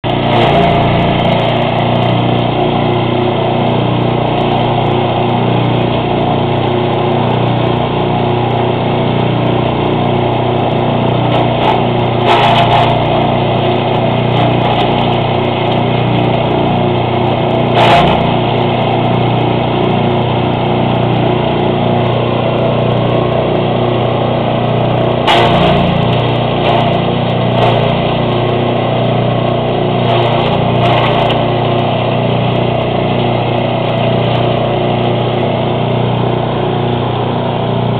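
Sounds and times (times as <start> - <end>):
wood chipper engine running: 0.0 - 37.9.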